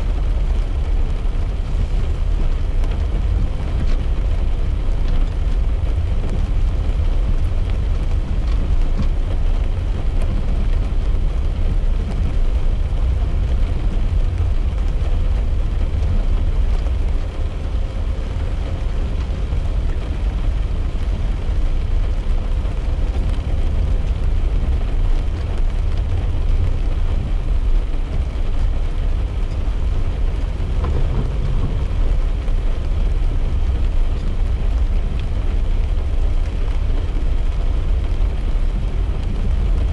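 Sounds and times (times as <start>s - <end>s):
car road and engine noise: 0.0s - 39.9s
rain hissing on car: 0.0s - 39.9s.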